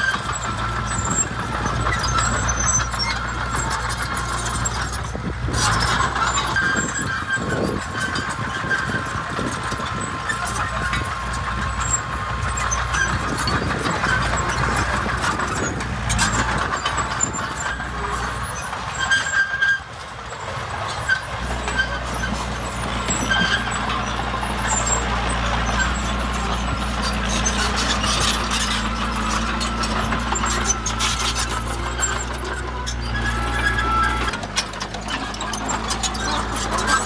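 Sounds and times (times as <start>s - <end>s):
diesel engine running: 0.0s - 37.0s
metallic squeaks and clanks: 0.0s - 37.0s.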